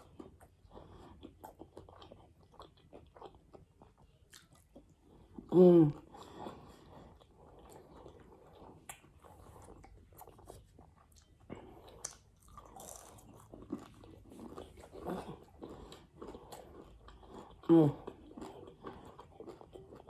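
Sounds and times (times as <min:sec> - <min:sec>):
chewing and crunching food: 0:00.0 - 0:20.0.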